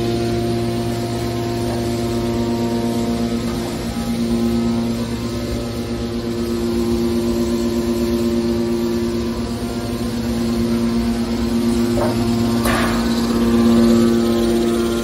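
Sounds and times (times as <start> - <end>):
hydraulic pump motor hum: 0.0 - 15.0.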